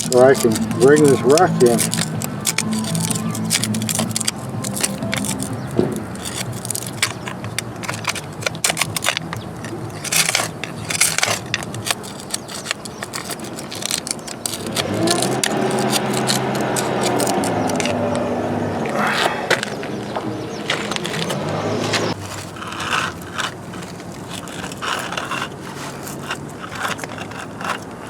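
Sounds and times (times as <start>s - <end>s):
rocks scraping and clinking: 0.0s - 18.2s, 18.8s - 28.0s.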